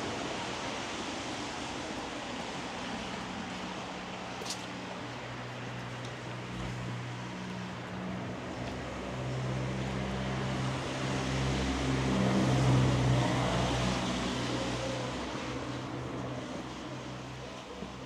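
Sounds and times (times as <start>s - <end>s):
vehicle engine hum and road noise: 2.7s - 18.0s.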